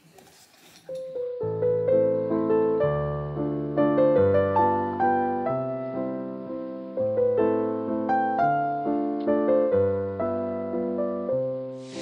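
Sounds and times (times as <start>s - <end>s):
gentle piano music: 0.9s - 12.0s.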